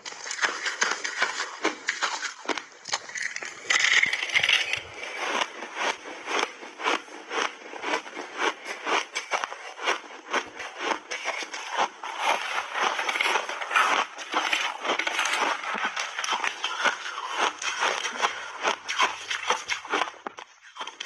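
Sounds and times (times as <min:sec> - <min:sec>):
chewing crunchy ice: 0:00.0 - 0:21.0.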